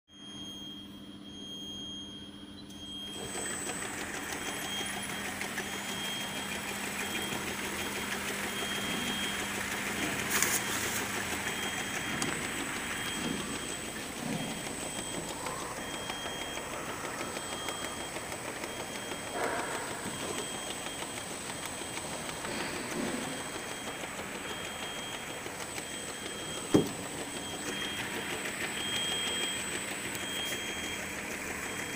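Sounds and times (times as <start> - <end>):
labeling machine humming: 0.2 - 31.9.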